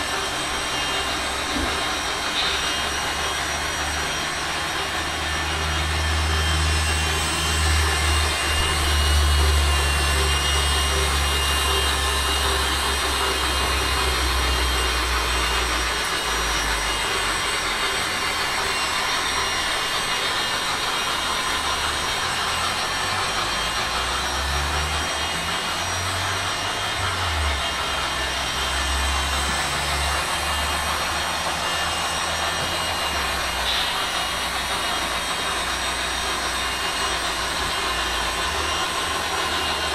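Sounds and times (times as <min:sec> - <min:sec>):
toy helicopter rotors whirring: 0:00.0 - 0:39.9.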